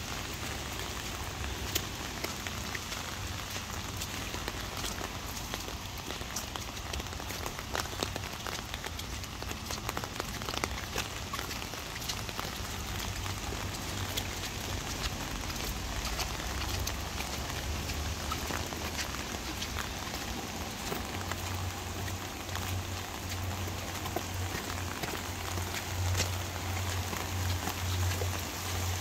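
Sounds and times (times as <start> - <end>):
steady rain on wet path: 0.0 - 29.0.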